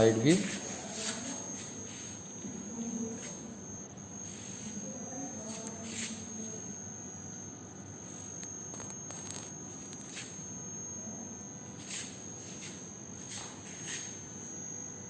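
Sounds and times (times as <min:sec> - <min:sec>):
thin high-pitched whine: 0:00.0 - 0:15.0.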